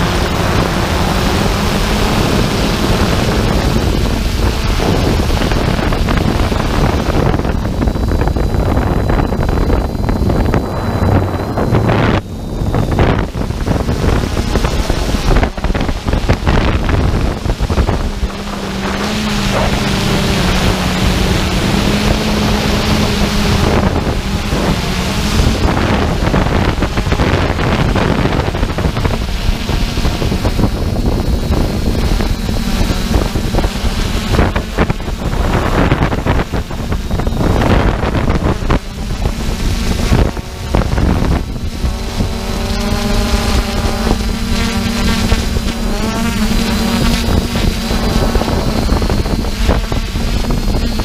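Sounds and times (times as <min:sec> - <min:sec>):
steady low hum: 0:00.0 - 0:51.0
wind buffeting microphone: 0:00.0 - 0:51.0.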